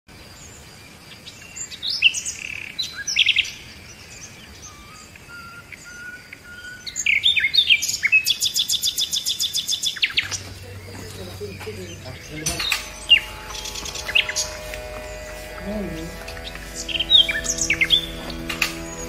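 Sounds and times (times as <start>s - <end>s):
birds chirping and singing: 1.3s - 19.0s.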